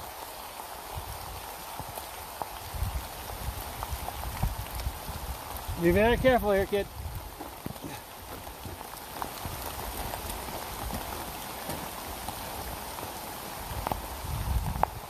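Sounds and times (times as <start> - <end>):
footsteps on wet rocky trail: 0.0 - 15.0
light rain on forest floor: 0.0 - 15.0.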